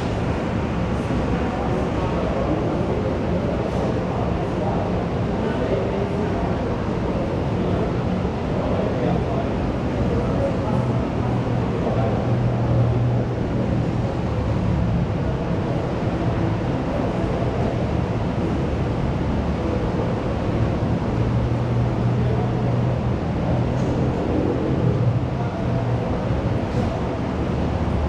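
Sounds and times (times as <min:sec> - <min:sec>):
indistinct crowd chatter: 0:00.0 - 0:28.0.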